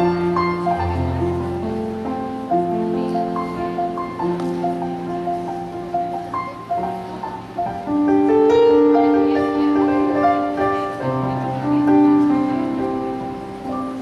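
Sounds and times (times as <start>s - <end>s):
keyboard accompaniment: 0.0s - 14.0s.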